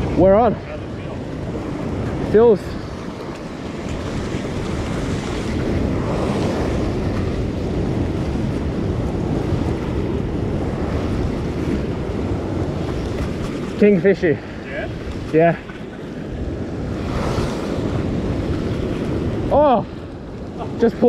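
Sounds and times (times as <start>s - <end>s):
ocean swell washing against rock: 0.0s - 21.0s
wind buffeting microphone: 0.0s - 21.0s.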